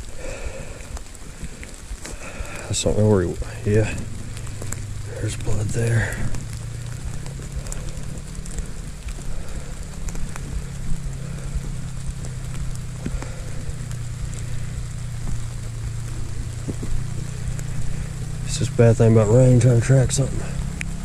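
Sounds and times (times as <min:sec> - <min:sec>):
footsteps through wet leaves: 0:00.0 - 0:21.0.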